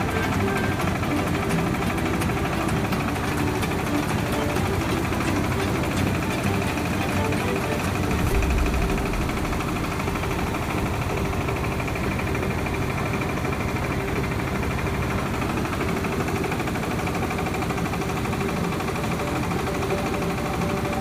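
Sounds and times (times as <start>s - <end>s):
mill machinery running: 0.0s - 21.0s.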